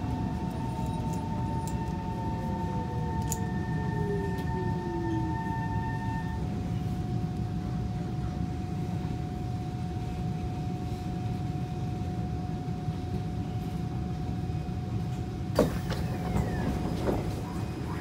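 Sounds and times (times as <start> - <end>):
thin steady whine: 0.0 - 18.0
train interior rumble: 0.0 - 18.0.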